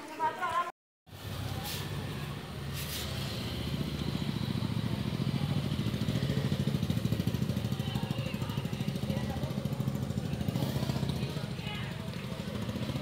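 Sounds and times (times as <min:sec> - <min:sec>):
vehicle engine running: 0:01.1 - 0:13.0.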